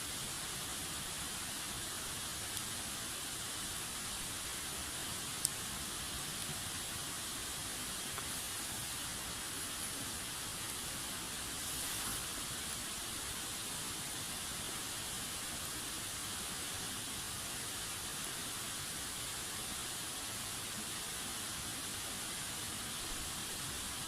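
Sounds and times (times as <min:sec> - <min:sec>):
faint fire crackles: 0:00.0 - 0:24.0
wood fire hissing: 0:00.0 - 0:24.0.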